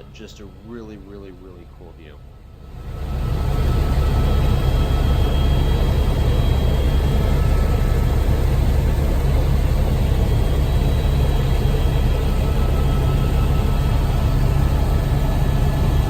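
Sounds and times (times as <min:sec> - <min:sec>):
faint high whine: 0:00.0 - 0:16.0
helicopter rotor and engine noise: 0:00.0 - 0:16.0.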